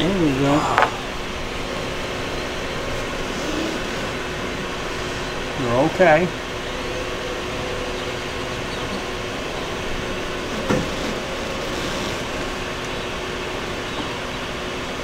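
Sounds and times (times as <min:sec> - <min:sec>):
constant tones: 0:00.0 - 0:15.0
mechanical hum with whirring: 0:00.0 - 0:15.0.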